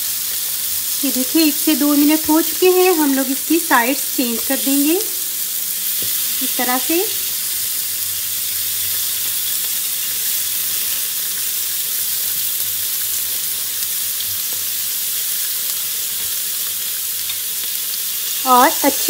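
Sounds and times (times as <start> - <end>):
meat sizzling in oil: 0.0 - 19.0.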